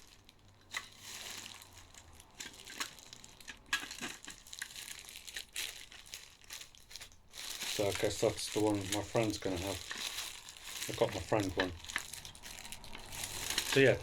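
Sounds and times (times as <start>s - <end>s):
crinkling rustling handling noise: 0.0s - 14.0s.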